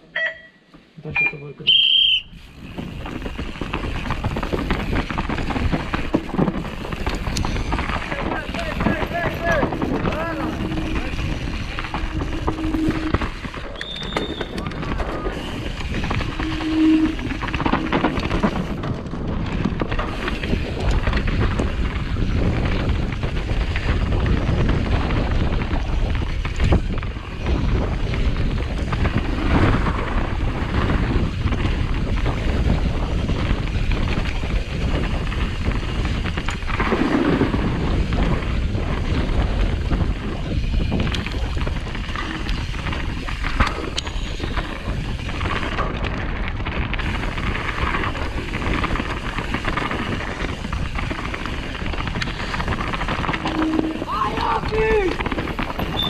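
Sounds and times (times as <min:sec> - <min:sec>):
mountain bike rattling: 0:01.7 - 0:56.0
wind buffeting microphone: 0:02.2 - 0:56.0.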